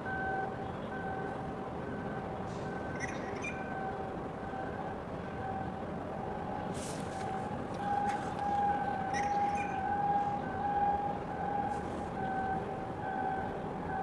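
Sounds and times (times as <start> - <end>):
siren-like alarm tone: 1.9 - 6.7, 7.3 - 14.0.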